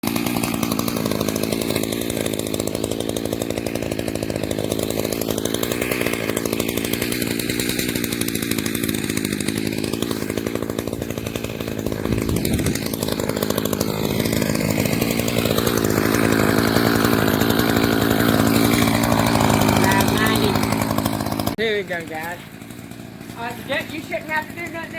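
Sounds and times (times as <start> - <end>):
chainsaw running: 0.0 - 24.9.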